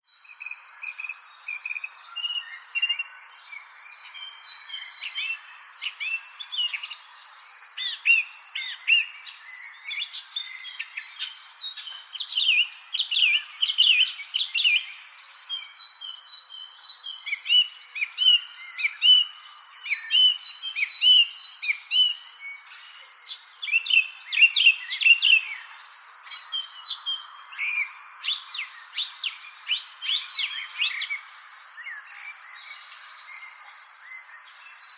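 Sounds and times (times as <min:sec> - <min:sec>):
songbirds chirping and whistling: 0:00.1 - 0:34.9.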